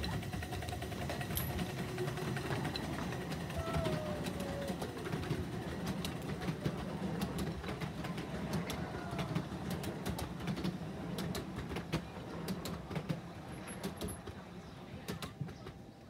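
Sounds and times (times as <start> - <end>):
miniature steam train rumbling: 0.0 - 16.0.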